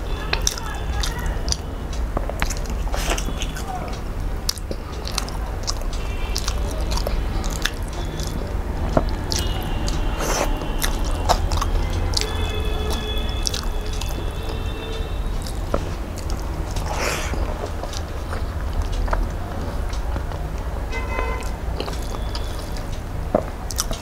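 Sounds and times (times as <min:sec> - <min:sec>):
man chewing and smacking: 0:00.3 - 0:24.0.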